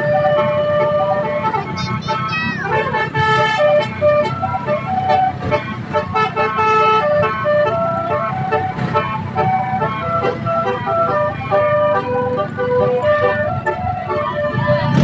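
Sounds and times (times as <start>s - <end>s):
bus engine rumble: 0.0s - 15.0s
musical bus horn melody: 0.0s - 15.0s.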